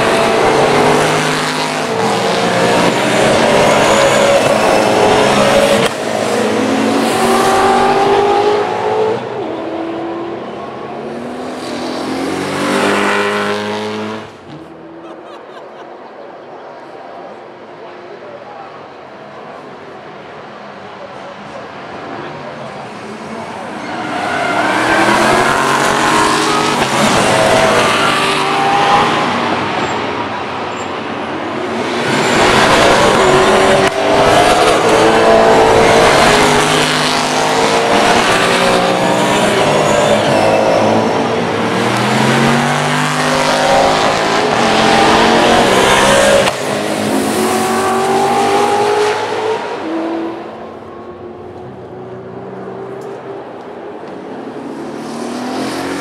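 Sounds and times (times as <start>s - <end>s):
racing cars braking and accelerating: 0.0s - 56.0s.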